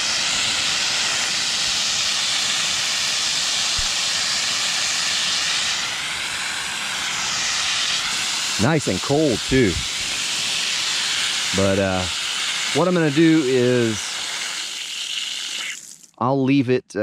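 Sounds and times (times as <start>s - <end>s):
water jetting from spigot: 0.0s - 16.2s.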